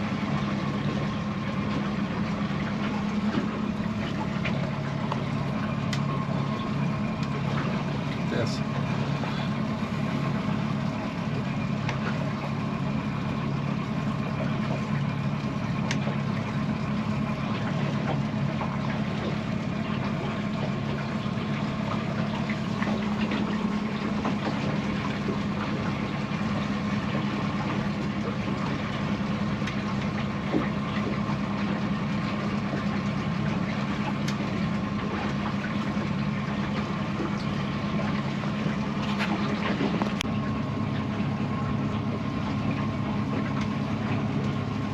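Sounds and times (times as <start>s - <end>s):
boat motor humming: 0.0s - 44.9s.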